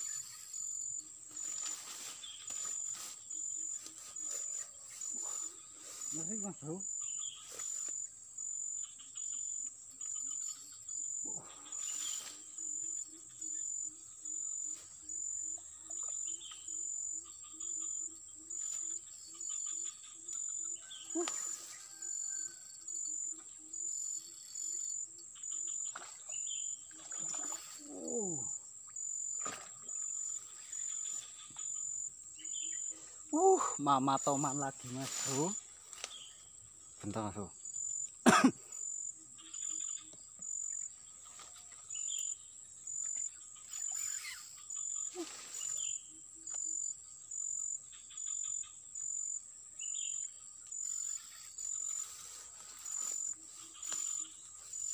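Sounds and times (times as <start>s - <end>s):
insect pulsing cricket-like trill: 0.0s - 54.9s.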